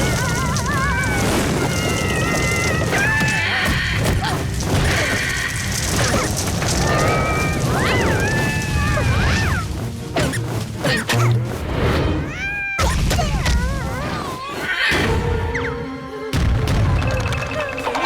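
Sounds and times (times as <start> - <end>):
cartoon background music: 0.0 - 18.0.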